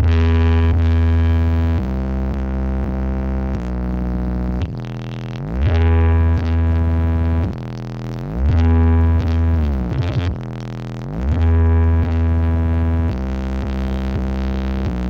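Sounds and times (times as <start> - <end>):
electronic music with distorted bass: 0.0 - 15.0.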